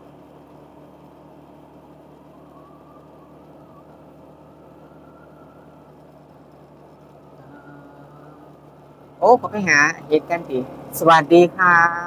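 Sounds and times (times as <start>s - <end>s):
engine and tyres on road: 0.0s - 12.0s
faint whine: 0.0s - 12.0s.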